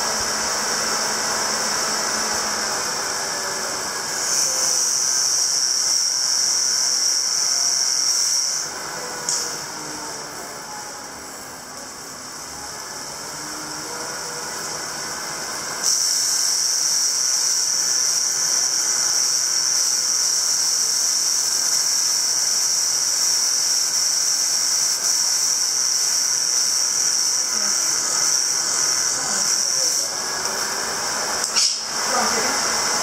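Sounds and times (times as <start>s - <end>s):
high-pitched grinding noise: 0.0s - 11.7s, 15.8s - 33.0s.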